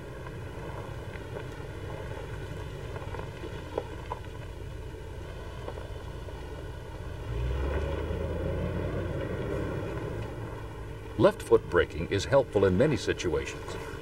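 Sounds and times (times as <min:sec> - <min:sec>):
vehicle engine low rumble: 0:00.0 - 0:14.0.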